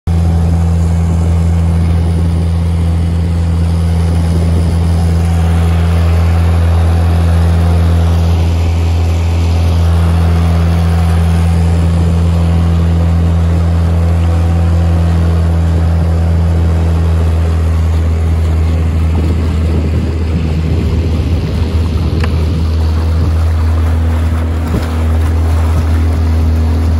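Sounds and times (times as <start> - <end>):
boat engine drone: 0.1 - 26.9
water rushing along hull: 0.1 - 26.9.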